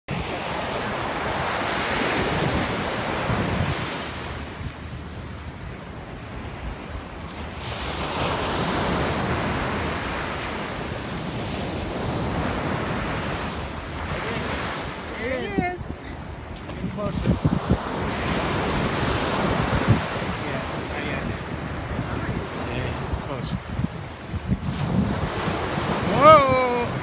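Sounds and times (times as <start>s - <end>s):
ocean waves breaking on beach: 0.1s - 27.0s.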